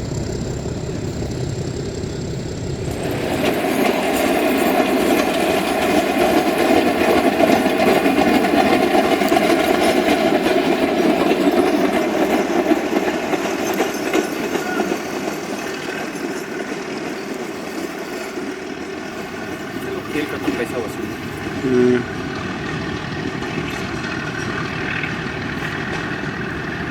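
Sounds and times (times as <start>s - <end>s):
train wheels rumbling and clattering: 0.0s - 26.9s.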